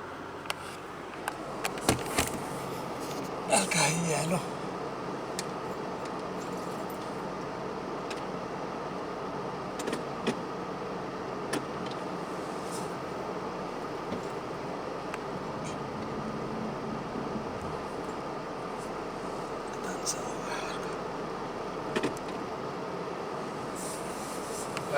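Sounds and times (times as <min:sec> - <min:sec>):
steady mechanical hum: 0:00.0 - 0:24.9.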